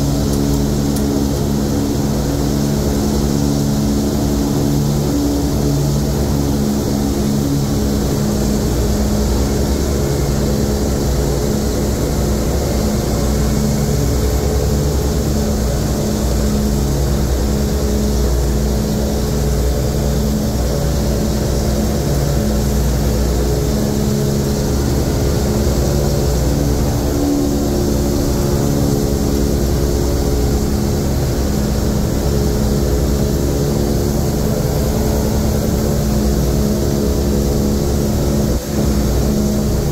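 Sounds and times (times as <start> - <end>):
aircraft propeller engines droning: 0.0 - 39.9.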